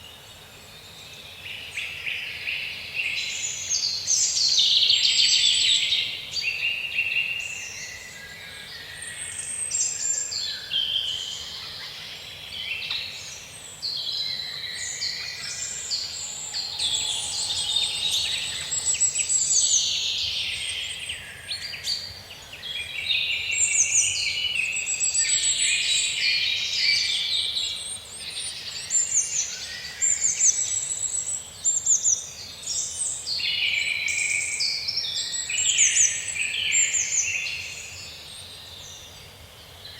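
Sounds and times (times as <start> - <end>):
forest birds singing: 0.0 - 39.9.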